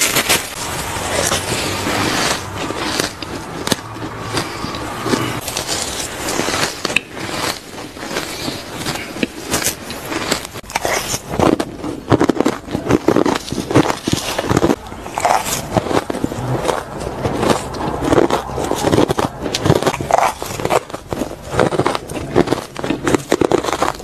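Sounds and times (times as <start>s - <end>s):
chewing crunching shaved ice: 0.0s - 24.0s.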